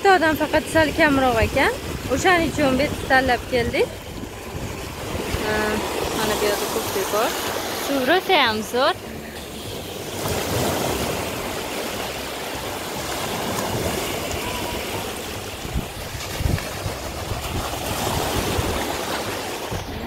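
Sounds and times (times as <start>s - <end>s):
ocean waves breaking on sand: 0.0s - 20.0s.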